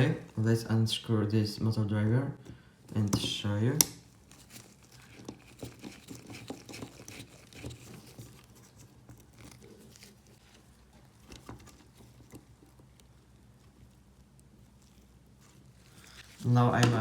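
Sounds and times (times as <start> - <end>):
small parts being handled: 2.9 - 17.0.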